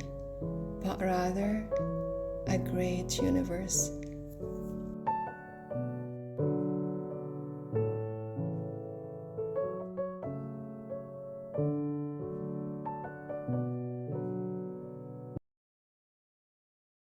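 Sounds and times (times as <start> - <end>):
gentle piano music: 0.0 - 15.4.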